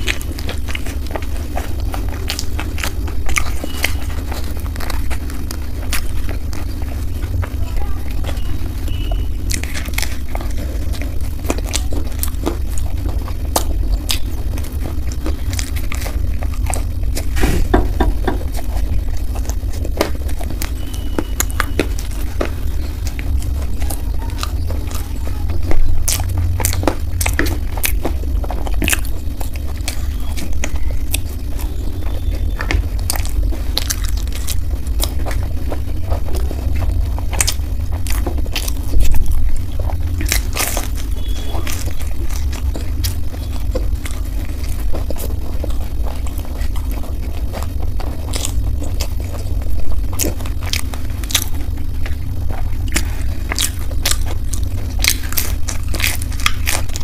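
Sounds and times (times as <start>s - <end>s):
chewing with wet clicks: 0.0s - 57.0s
steady low hum: 0.0s - 57.0s.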